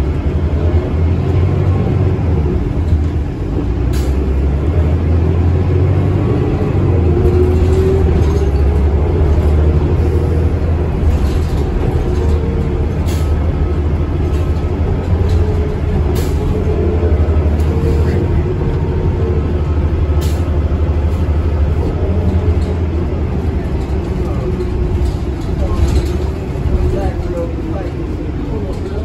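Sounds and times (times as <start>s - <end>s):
bus engine and road drone: 0.0s - 29.0s.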